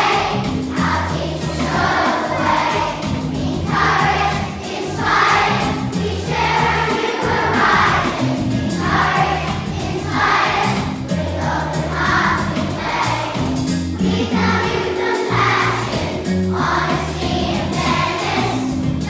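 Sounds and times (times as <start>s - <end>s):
group singing: 0.0s - 13.3s, 14.0s - 18.6s
instrumental accompaniment: 0.0s - 19.0s.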